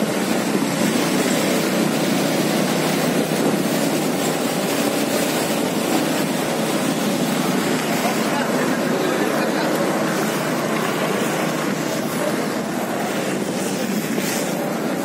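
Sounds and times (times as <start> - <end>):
steady engine-like running noise: 0.0 - 15.0.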